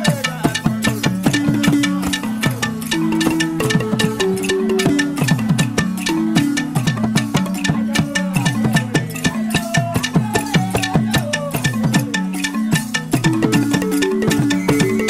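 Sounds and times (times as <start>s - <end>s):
wooden xylophone played fast: 0.0s - 15.0s.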